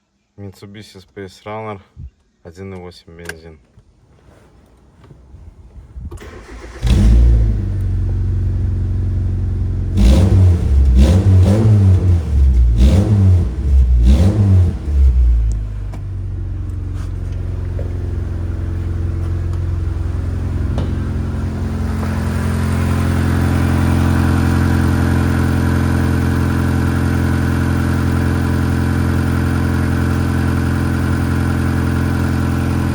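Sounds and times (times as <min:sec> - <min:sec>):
car engine starting and revving: 0:06.1 - 0:32.9.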